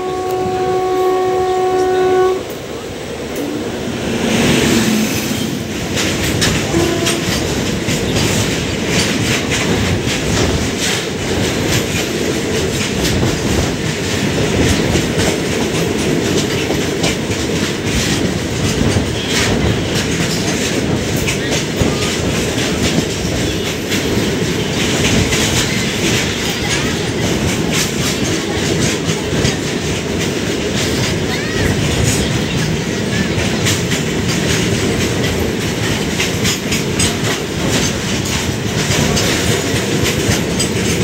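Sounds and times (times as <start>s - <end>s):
train wheels clattering: 0.0s - 41.0s.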